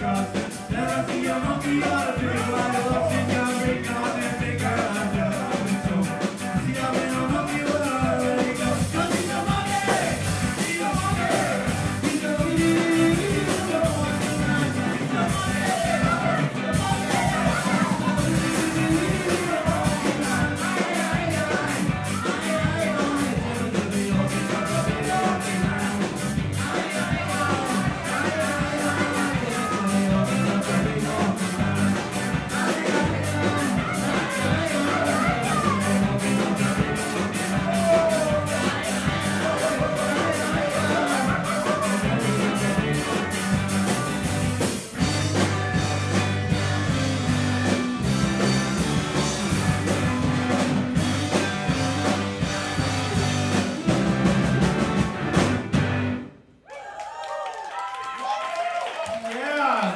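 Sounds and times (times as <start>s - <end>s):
ska band playing: 0.0s - 56.6s.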